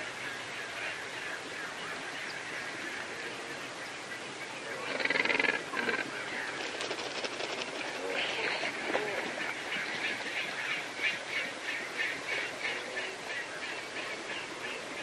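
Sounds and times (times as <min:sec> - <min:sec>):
outdoor pond hiss: 0:00.0 - 0:15.0.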